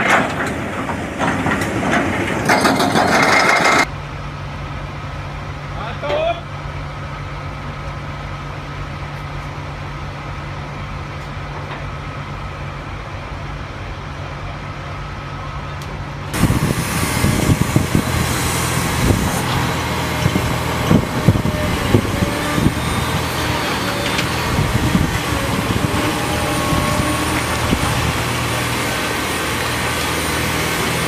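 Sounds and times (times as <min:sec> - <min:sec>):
engine knocks and clanks: 0:00.0 - 0:31.0
heavy vehicle engine running: 0:00.0 - 0:31.0.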